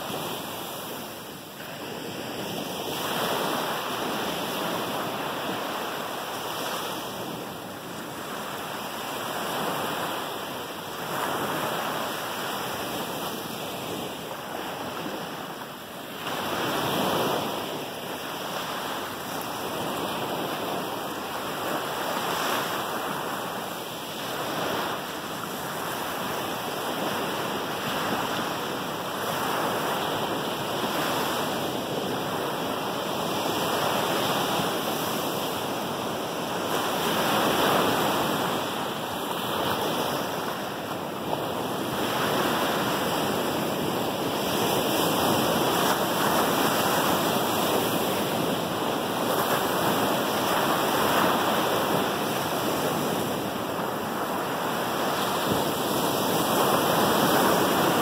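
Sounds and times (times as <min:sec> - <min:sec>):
ocean waves washing on beach: 0:00.0 - 0:58.0.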